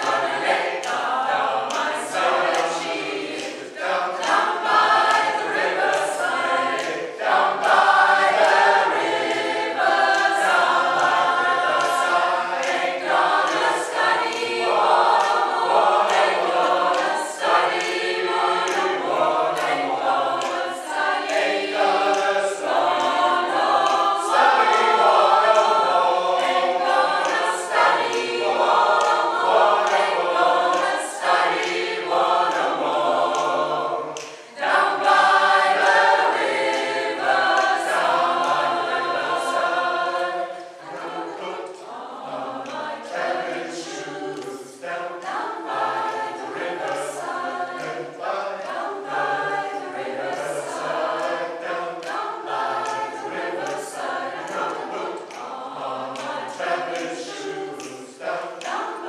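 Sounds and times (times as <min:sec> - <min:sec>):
mixed choir singing a cappella: 0:00.0 - 0:59.0.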